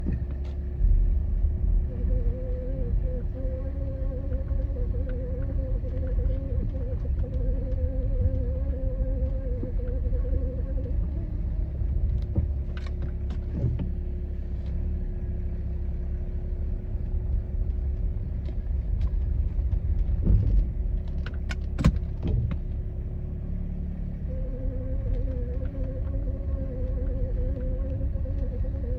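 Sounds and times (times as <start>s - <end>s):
car drivetrain humming: 0.0s - 28.9s
low road rumble: 0.0s - 28.9s.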